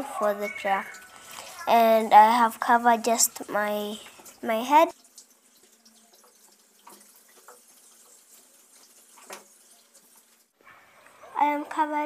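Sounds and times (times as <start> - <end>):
water running from a tap: 0.0 - 10.6
water splashes of washing: 0.0 - 10.6.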